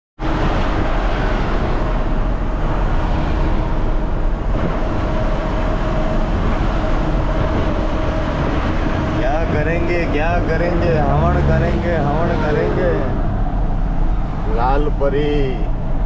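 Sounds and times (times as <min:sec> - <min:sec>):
truck engine and road noise: 0:00.2 - 0:16.0.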